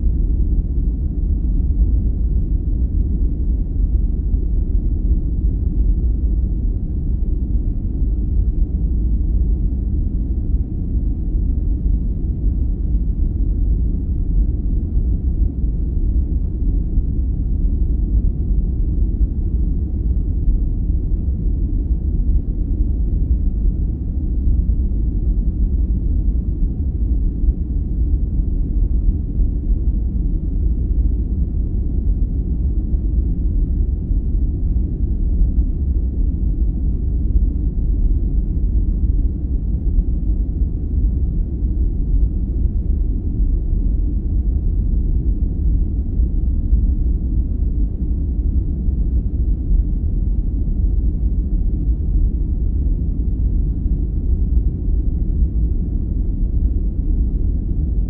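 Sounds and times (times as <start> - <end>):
low muffled rushing noise: 0.0 - 58.0.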